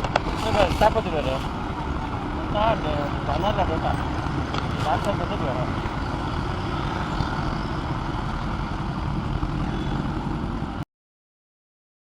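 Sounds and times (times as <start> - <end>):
motorcycle engine and road rumble: 0.0 - 10.8.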